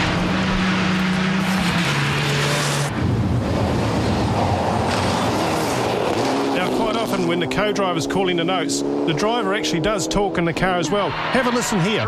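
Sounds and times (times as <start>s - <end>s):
rally car engine: 0.0s - 12.0s.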